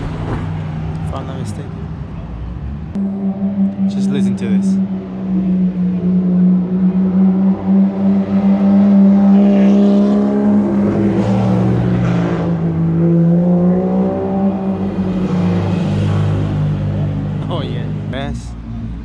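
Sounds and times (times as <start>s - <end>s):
car engine revving steadily: 0.0s - 19.0s.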